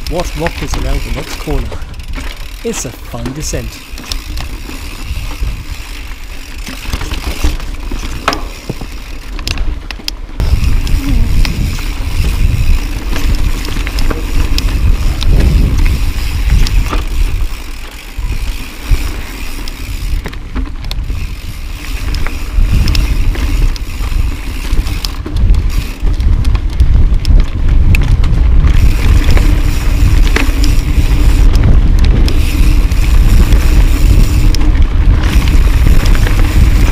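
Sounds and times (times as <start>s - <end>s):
bike clicks and knocks: 0.0s - 36.9s
bike tyres rolling over dirt: 0.0s - 36.9s
wind rushing over microphone: 3.5s - 9.2s, 10.4s - 36.9s.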